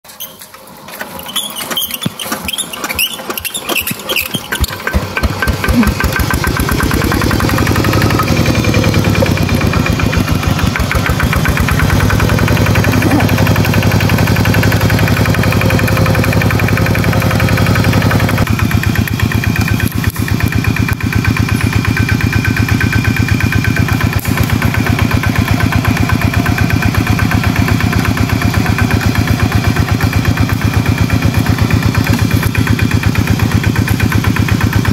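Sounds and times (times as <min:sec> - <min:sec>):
diesel engine starting and chugging: 0:00.1 - 0:34.9.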